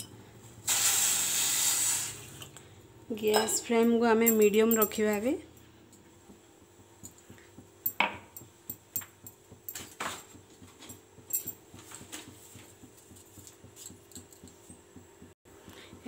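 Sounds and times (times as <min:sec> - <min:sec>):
steady low hum: 0:02.4 - 0:16.0.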